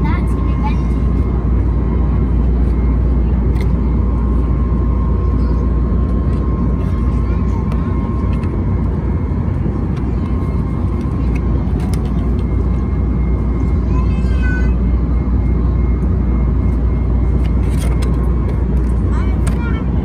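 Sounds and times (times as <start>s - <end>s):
aircraft cabin roar: 0.0s - 20.0s.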